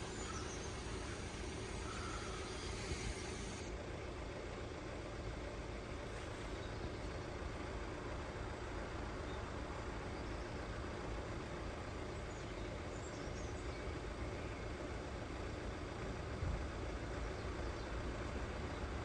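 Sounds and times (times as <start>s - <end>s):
vehicles idling rumble: 0.0s - 19.0s.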